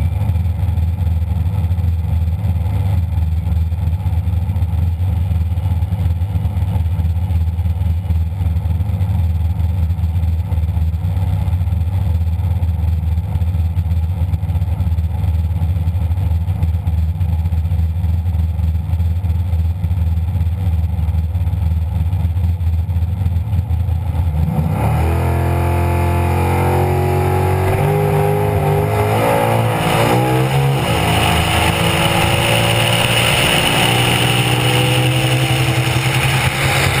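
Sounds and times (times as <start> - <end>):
drag car engine idling and revving: 0.0 - 37.0.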